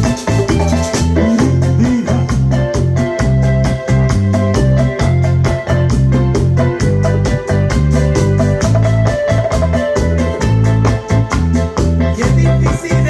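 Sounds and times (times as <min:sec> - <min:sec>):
electronic organ melody: 0:00.0 - 0:13.0
pulsing bass line: 0:00.0 - 0:13.0
quick percussion rhythm: 0:00.0 - 0:13.0.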